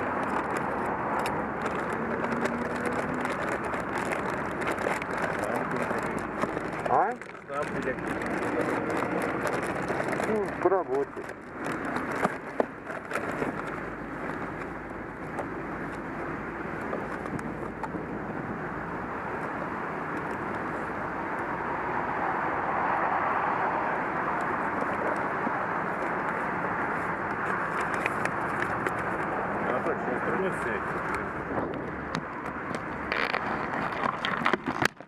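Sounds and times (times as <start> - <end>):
vehicle road noise rushing: 0.0 - 35.0.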